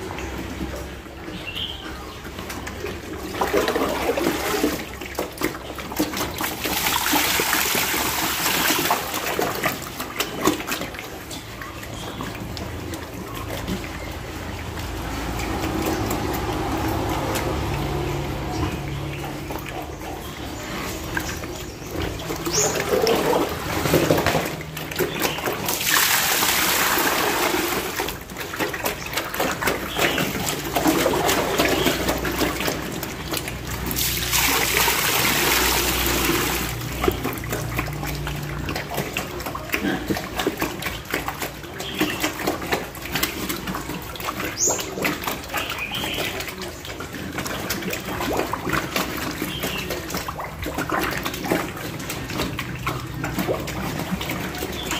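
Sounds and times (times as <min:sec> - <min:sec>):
piglets slurping and chomping: 0:00.0 - 0:54.9
splashing in a trough: 0:00.0 - 0:54.9.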